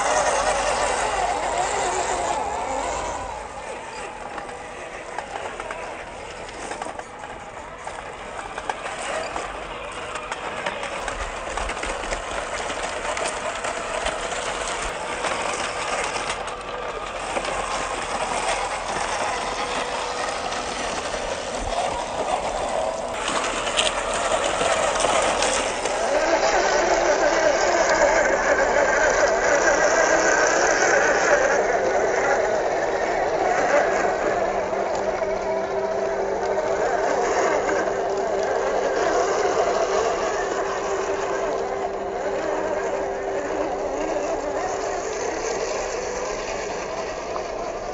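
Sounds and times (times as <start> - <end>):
small clicks and crackles: 0.0 - 47.9
toy truck motor whining: 0.0 - 47.9.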